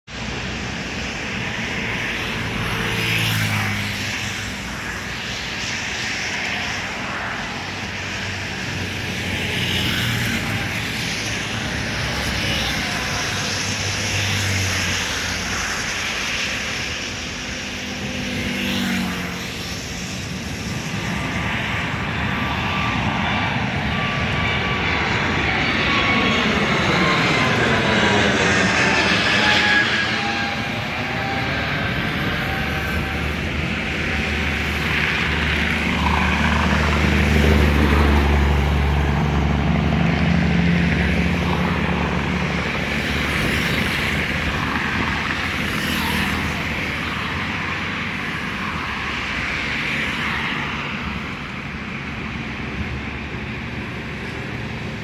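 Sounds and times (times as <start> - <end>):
jet engine rush: 0.1 - 55.0
jet engine whine: 0.1 - 55.0.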